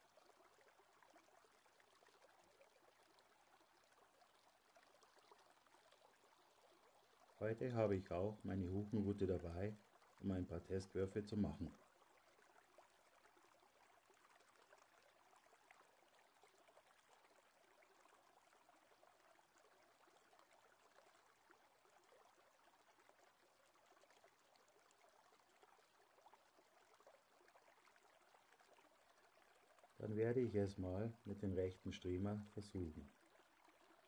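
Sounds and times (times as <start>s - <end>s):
faint flowing river water: 0.0s - 34.0s.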